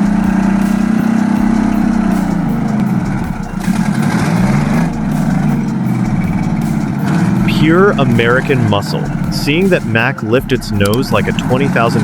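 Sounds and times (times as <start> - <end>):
heavy vehicle engine revving: 0.0 - 12.0.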